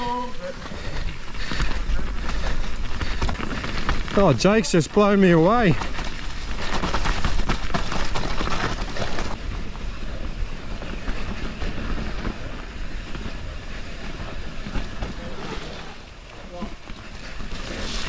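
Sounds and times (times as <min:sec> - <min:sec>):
mountain bike rattling and clattering: 0:00.0 - 0:18.0
tyre noise on dirt trail: 0:00.0 - 0:18.0.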